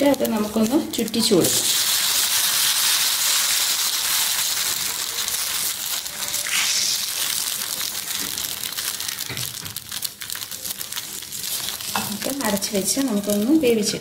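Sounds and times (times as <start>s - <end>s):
batter sizzling in a hot pan: 0.0s - 14.0s.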